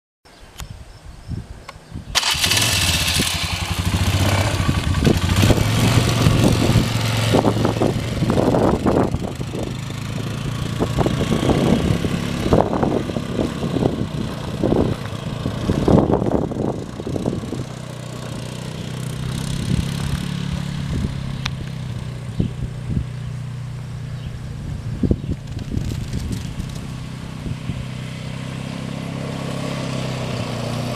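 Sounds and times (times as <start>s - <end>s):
quad bike engine revving: 2.2s - 30.9s.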